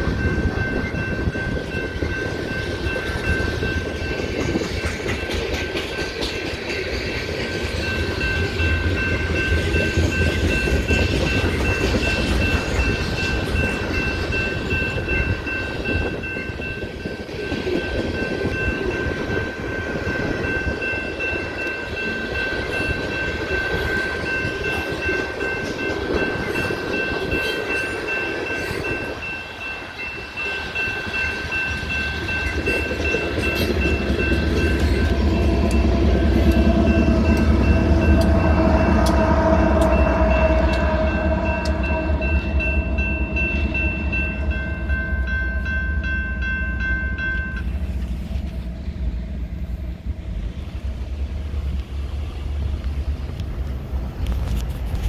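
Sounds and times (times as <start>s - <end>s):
crossing bell ringing: 0.0s - 50.2s
diesel locomotive engine rumble: 0.0s - 55.0s.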